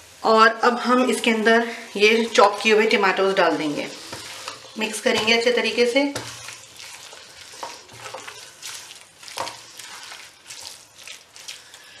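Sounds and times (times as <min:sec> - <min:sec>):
food sizzling in fat: 0:00.0 - 0:12.0
spatula scraping a pan: 0:01.7 - 0:12.0.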